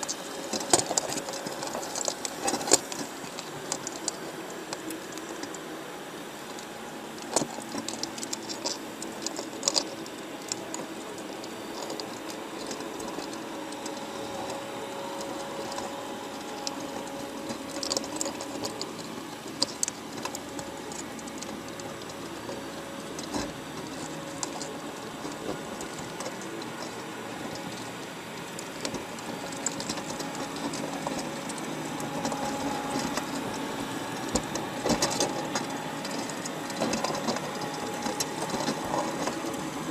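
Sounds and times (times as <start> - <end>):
underwater hum and hiss: 0.0 - 39.9.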